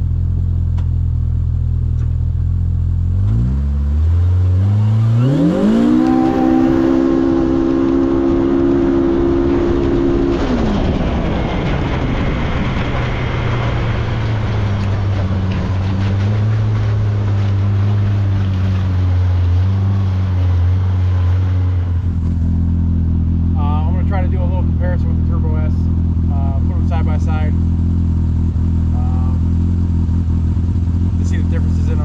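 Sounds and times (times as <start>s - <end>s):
tyre and ground noise: 0.0s - 32.0s
utility vehicle engine revving: 0.0s - 32.0s.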